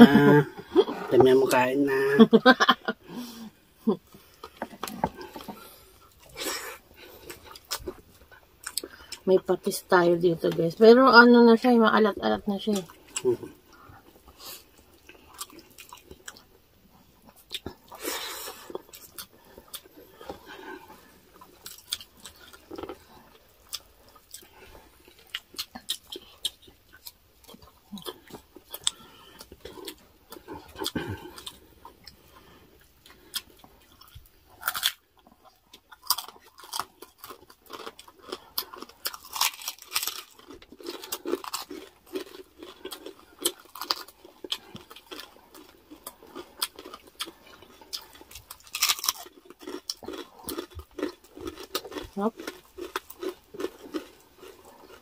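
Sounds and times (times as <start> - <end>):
chewing crunchy pork rinds: 0.0 - 2.5, 3.5 - 11.8, 12.6 - 55.0.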